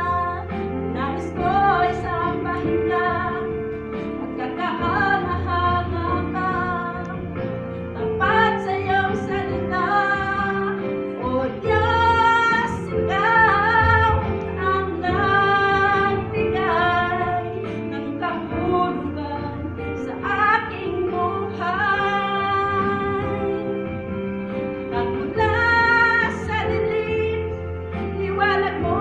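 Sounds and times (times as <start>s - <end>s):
instrumental accompaniment of held chords: 0.0s - 29.0s
woman singing into a microphone: 0.0s - 29.0s.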